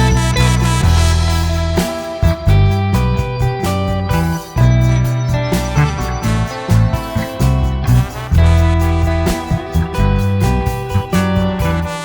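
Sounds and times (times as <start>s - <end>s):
bass line: 0.0s - 12.0s
guitar instrumental music: 0.0s - 12.0s.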